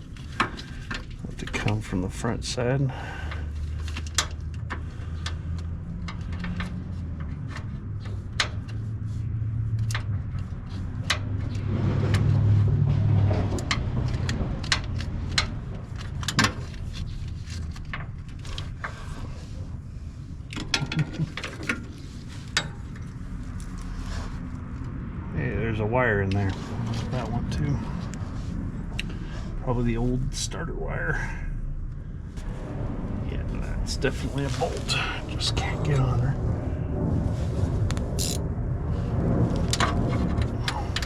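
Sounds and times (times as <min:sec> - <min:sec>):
low rumble: 0:00.0 - 0:41.0.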